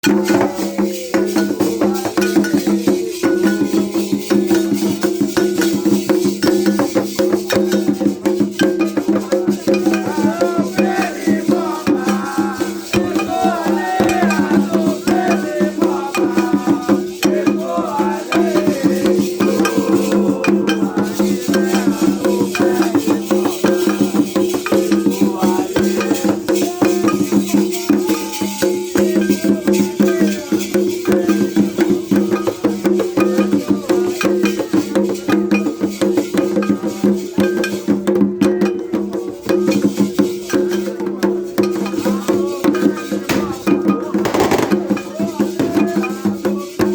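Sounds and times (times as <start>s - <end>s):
hand percussion: 0.0s - 46.9s
rattles shaking a fast beat: 0.0s - 46.9s
voices singing: 0.0s - 46.9s.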